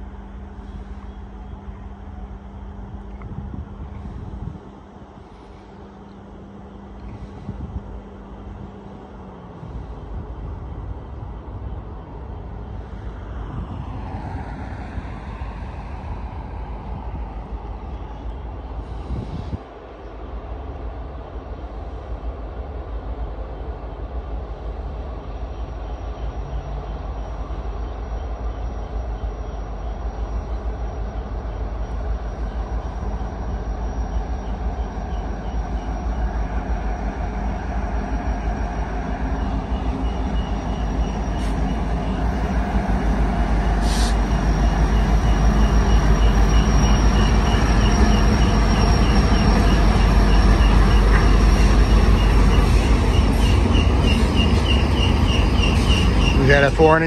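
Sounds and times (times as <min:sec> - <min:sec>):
diesel locomotives rumbling: 0:00.0 - 0:57.0.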